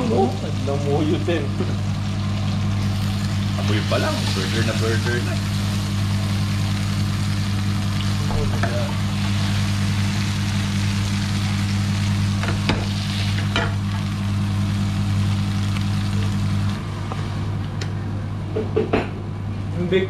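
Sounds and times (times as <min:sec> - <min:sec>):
burger patties sizzling in pan: 0:00.0 - 0:17.5
steady low hum: 0:00.0 - 0:20.0.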